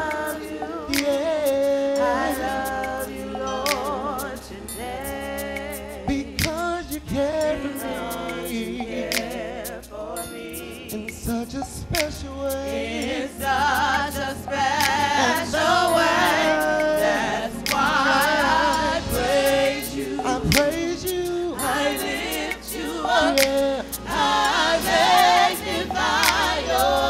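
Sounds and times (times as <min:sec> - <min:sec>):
choir singing held notes: 0:00.0 - 0:27.0.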